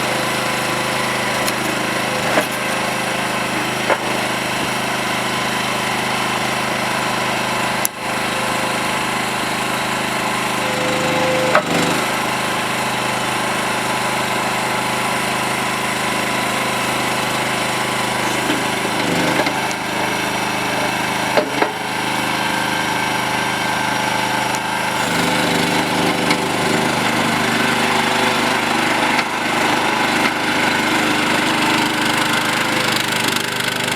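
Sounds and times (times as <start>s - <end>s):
skid steer loader engine running: 0.0s - 33.9s.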